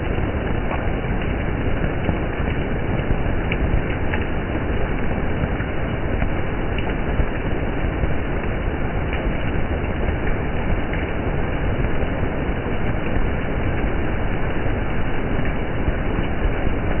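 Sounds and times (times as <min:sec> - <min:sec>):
water splashing on wet street: 0:00.0 - 0:17.0.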